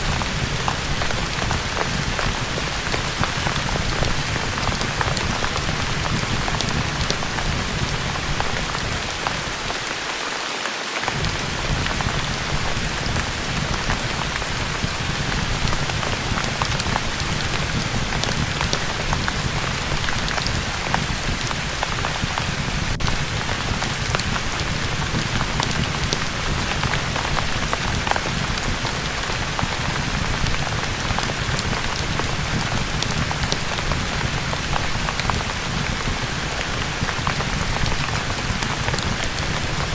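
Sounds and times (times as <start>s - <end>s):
fire crackling in fireplace: 0.0s - 9.9s, 11.0s - 39.9s
steady rain falling: 0.0s - 39.9s.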